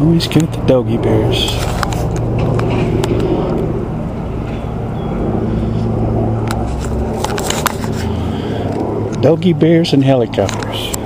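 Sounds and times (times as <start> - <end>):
low vehicle rumble with hum: 0.0 - 11.0.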